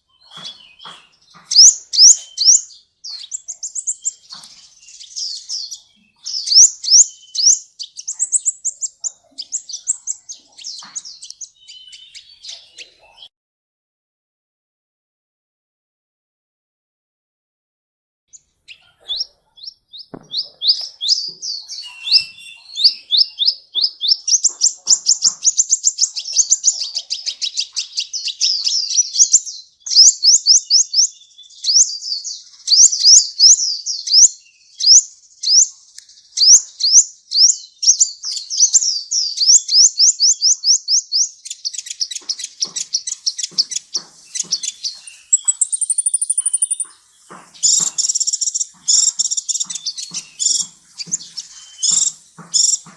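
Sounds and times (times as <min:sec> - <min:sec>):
bird chattering song: 0:00.0 - 0:13.3, 0:18.3 - 0:52.9
bird high trill: 0:00.2 - 0:13.1, 0:18.7 - 0:32.0, 0:36.4 - 0:52.9.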